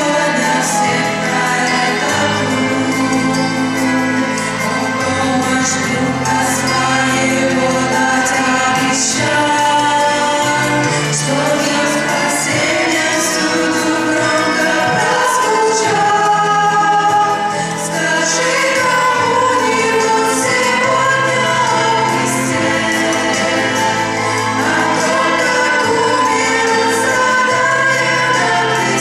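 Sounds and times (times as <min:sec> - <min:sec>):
women singing together: 0:00.0 - 0:29.0.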